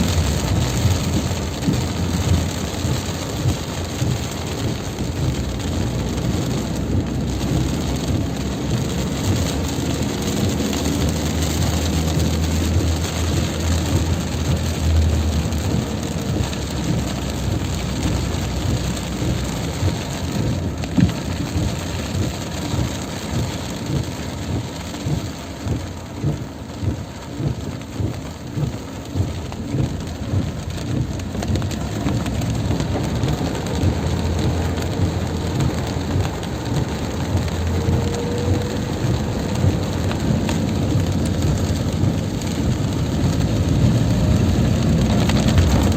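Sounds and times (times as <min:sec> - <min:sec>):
heavy rain pouring: 0:00.0 - 0:45.9
low rumble: 0:00.0 - 0:45.9.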